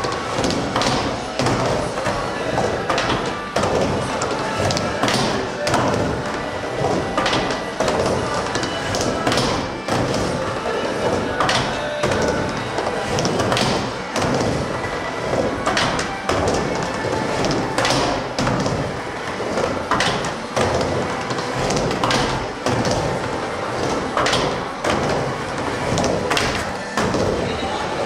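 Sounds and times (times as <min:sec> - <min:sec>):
skateboard wheels rumbling on ramp: 0:00.0 - 0:28.0.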